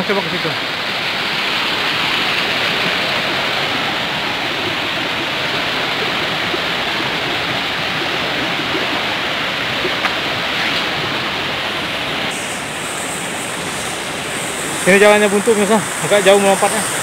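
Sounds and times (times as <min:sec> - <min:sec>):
stream running over stones: 0:00.0 - 0:17.0.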